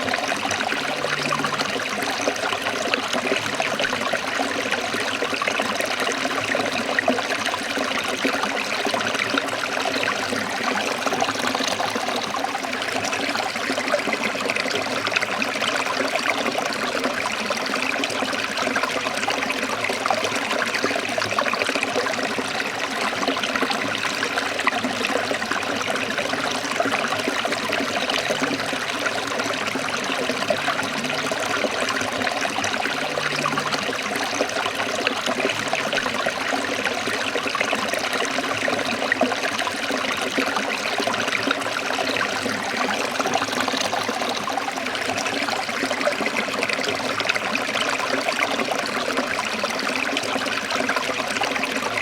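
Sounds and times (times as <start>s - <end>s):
stream water splashing over rocks: 0.0s - 52.0s.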